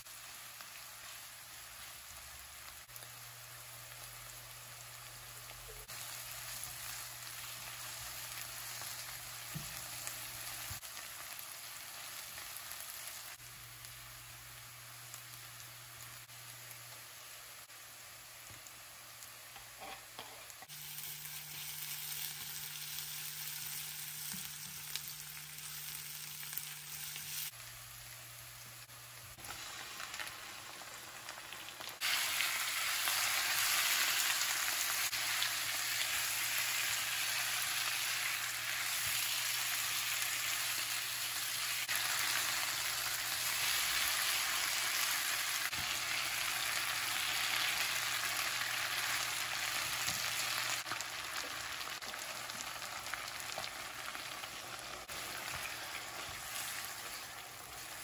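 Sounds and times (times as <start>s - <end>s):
chicken sizzling in a pan: 0.0s - 58.0s
onions frying in oil: 0.0s - 58.0s.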